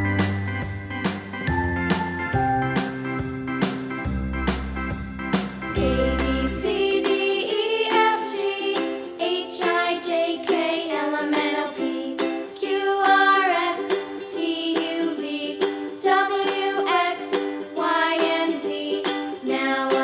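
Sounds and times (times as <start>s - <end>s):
cheerful plucked string music: 0.0s - 20.0s.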